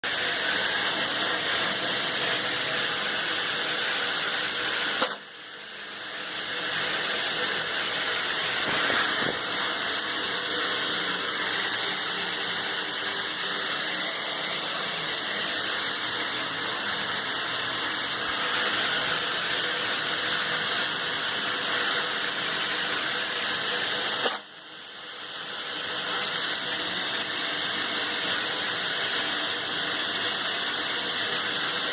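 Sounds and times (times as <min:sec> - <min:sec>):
shower running: 0:00.0 - 0:24.2, 0:24.8 - 0:31.9.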